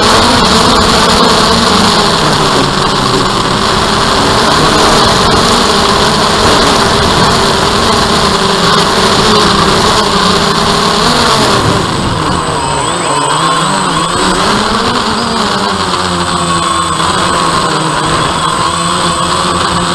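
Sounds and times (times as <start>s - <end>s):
drone motors and propellers: 0.0s - 19.9s.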